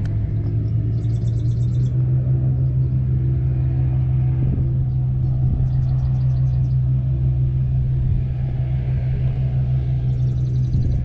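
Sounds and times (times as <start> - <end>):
electric trolling motor humming: 0.0 - 11.0
wind rumbling on microphone: 0.0 - 11.0.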